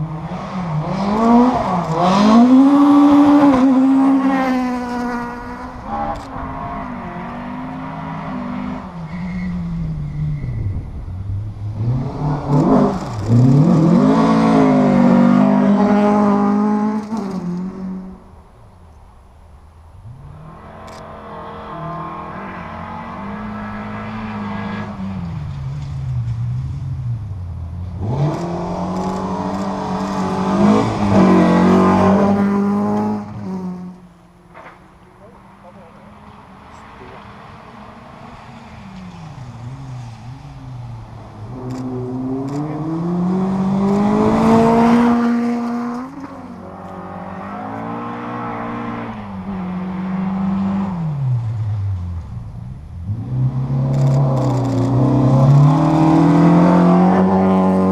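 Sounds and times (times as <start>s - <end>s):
rally car engines revving: 0.0s - 18.4s, 20.0s - 57.9s.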